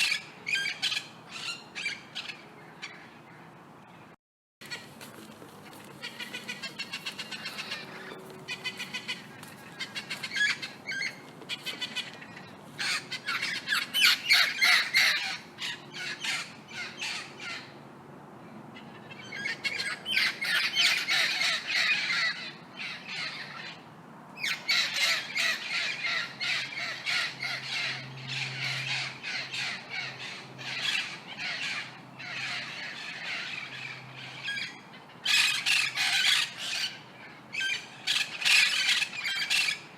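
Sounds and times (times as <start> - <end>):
parrots squawking: 0.0 - 3.1, 6.0 - 17.7, 18.8 - 23.8, 24.4 - 39.9.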